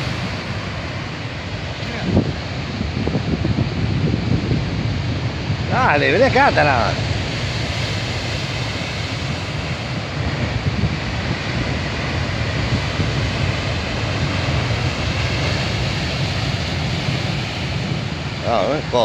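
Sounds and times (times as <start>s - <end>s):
surf breaking on rocky shore: 0.0s - 19.0s
wind buffeting microphone: 0.0s - 19.0s.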